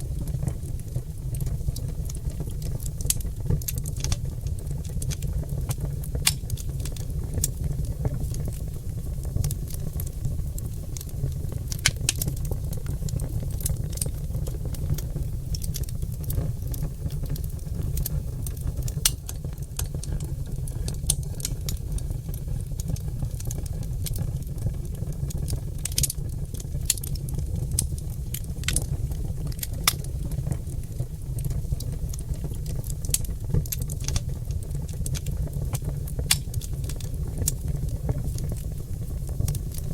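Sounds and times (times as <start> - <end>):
logs crackling and popping: 0.0 - 39.9
low rumble of fire: 0.0 - 39.9.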